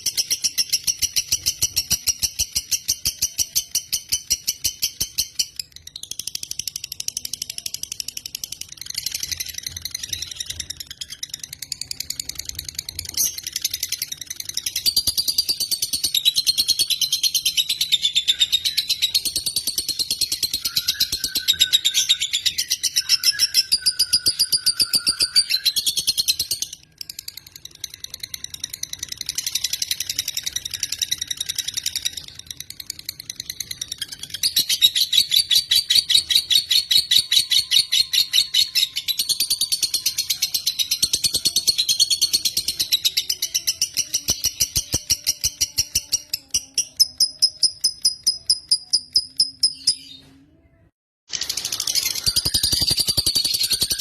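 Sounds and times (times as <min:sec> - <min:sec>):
bird chattering in fast trill: 0:00.0 - 0:50.0, 0:51.4 - 0:54.0.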